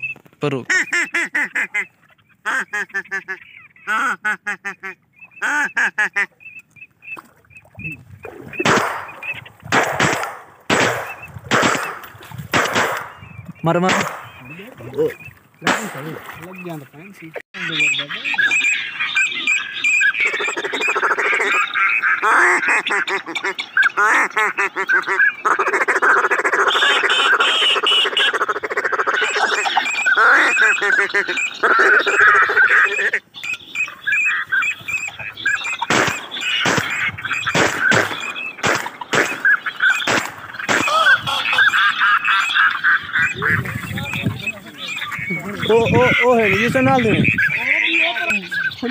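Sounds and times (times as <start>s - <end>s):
ducks quacking: 0.0s - 48.9s.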